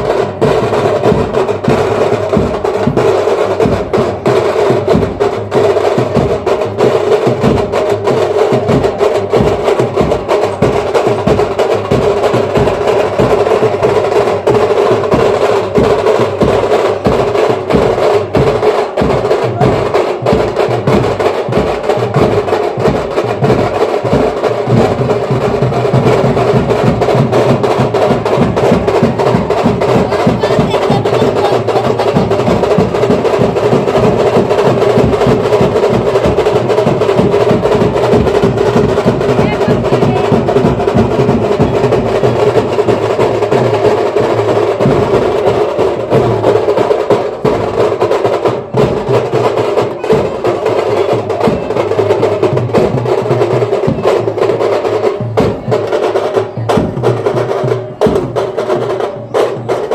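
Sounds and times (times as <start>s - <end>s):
small drums played fast: 0.0s - 59.9s.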